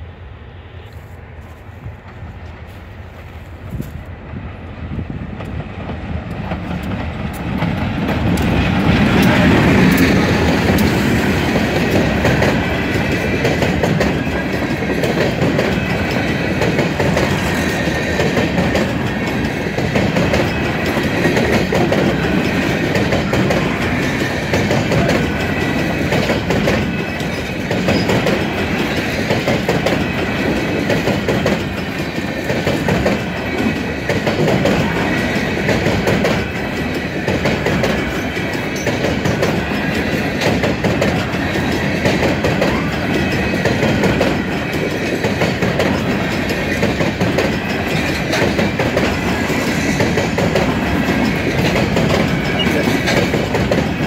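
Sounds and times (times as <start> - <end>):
diesel locomotive passing: 0.0 - 54.0
wheels clacking over rail joints: 5.4 - 54.0.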